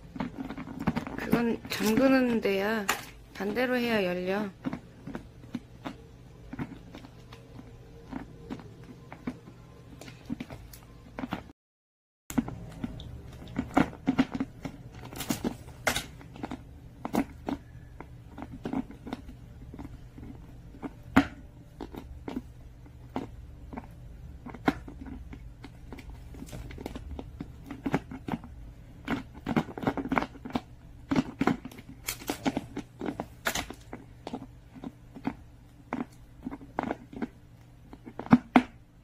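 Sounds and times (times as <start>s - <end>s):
dog gnawing plastic bottle cap: 0.0s - 2.4s, 4.6s - 11.5s, 12.3s - 38.8s.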